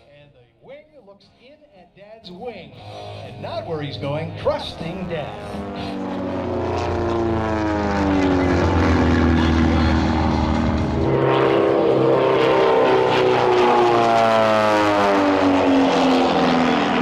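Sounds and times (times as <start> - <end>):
propeller planes flying past: 2.8 - 17.0.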